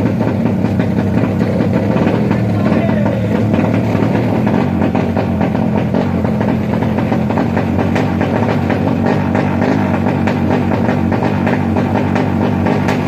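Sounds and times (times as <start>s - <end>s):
motorcycle engines running loud: 0.0s - 13.0s.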